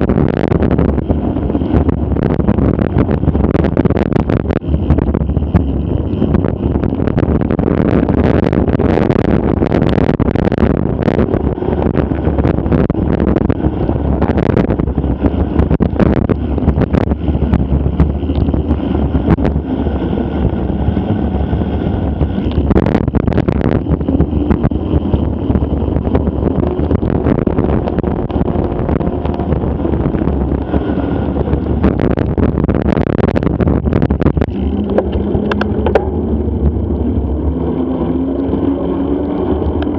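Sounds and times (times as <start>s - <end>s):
bike knocking and rattling: 0.0s - 39.9s
wind and tyre rumble: 0.0s - 39.9s.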